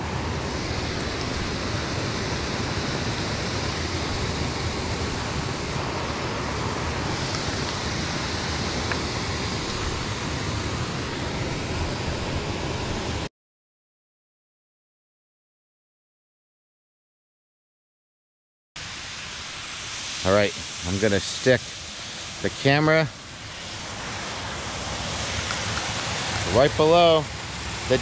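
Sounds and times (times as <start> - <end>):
water rushing over spillway: 0.0 - 13.3, 18.8 - 28.0.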